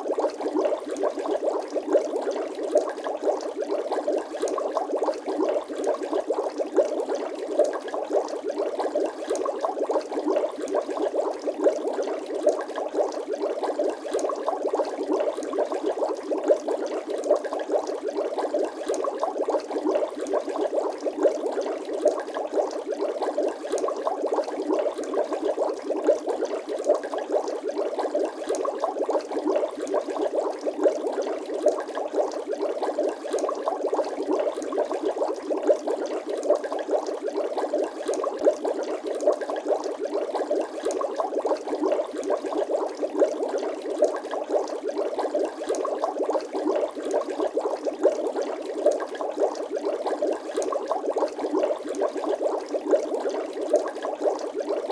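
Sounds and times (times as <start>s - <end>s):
water bubbling: 0.0s - 54.9s.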